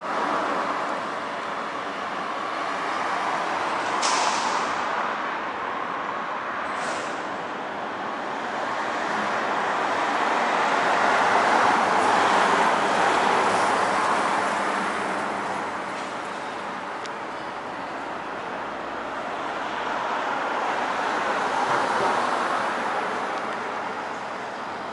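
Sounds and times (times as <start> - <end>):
road traffic vehicles passing: 0.0 - 24.9.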